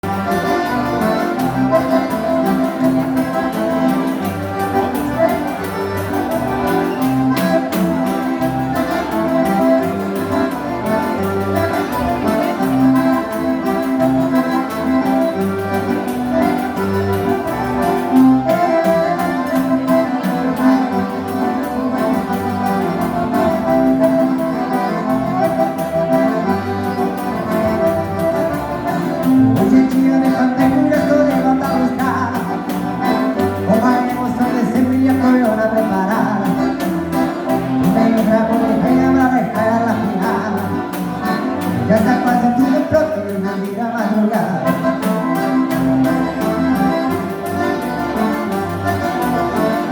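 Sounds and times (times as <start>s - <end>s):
accordion dance band: 0.0s - 49.9s
alternating bass line: 0.0s - 49.9s.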